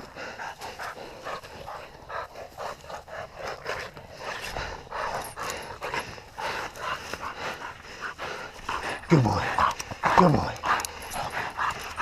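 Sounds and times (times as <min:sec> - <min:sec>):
dog panting rapidly: 0:00.0 - 0:12.0.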